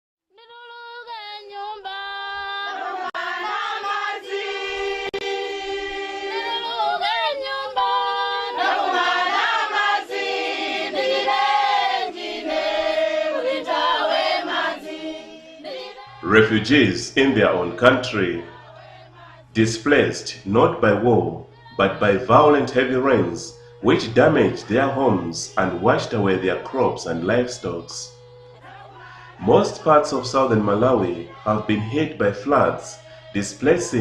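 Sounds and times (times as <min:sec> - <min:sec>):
choir singing long held notes: 0:00.4 - 0:34.0.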